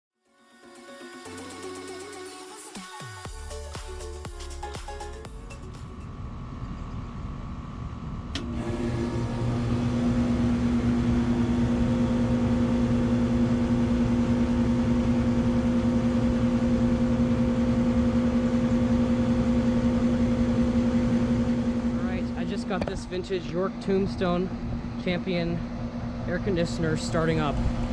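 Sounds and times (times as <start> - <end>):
air conditioner humming: 5.3 - 27.9.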